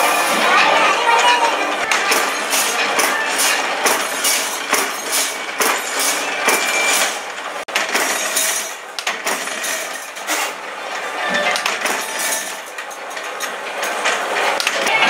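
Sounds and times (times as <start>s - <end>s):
workshop machine noise: 0.0s - 15.0s.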